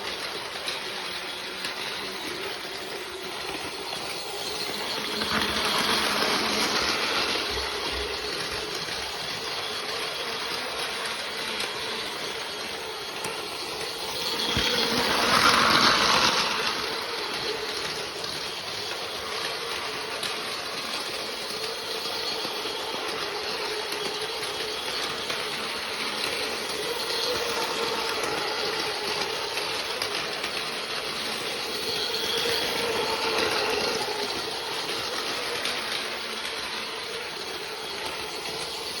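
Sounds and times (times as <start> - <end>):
toy train motor whine: 0.0 - 39.0
wheels rattling over rails: 1.8 - 37.4.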